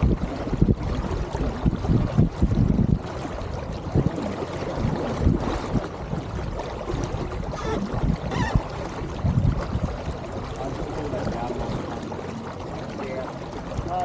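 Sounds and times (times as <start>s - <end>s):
water washing along boat hull: 0.0s - 14.0s
wind buffeting microphone: 0.0s - 14.0s.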